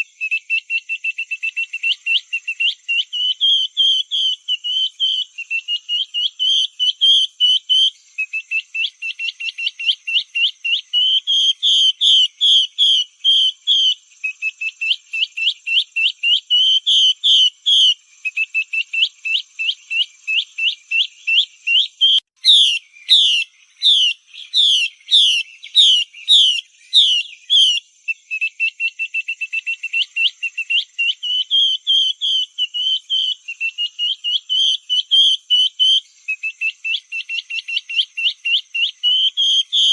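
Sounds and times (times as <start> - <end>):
bird whistled call notes: 0.0 - 39.9.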